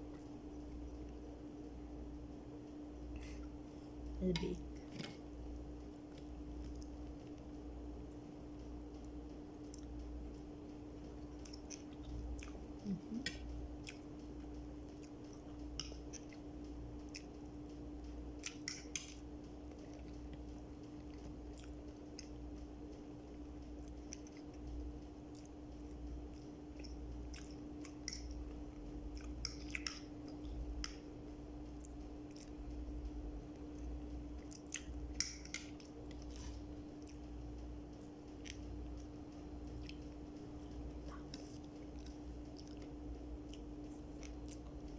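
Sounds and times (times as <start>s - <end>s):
steady low hum: 0.0s - 44.9s
person chewing food: 3.1s - 44.9s.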